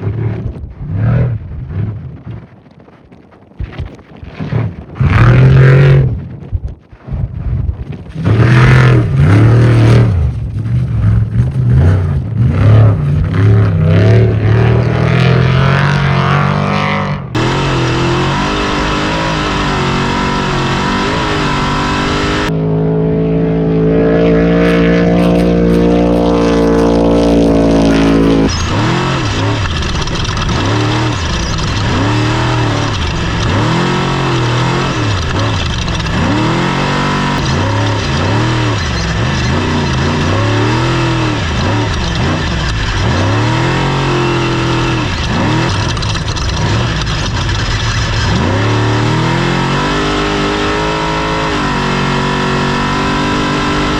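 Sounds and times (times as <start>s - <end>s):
race truck engine revving: 8.1s - 53.9s.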